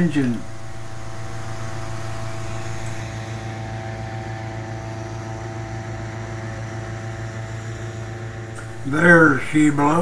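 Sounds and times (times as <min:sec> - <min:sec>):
inflator fan engine running: 0:00.0 - 0:10.0.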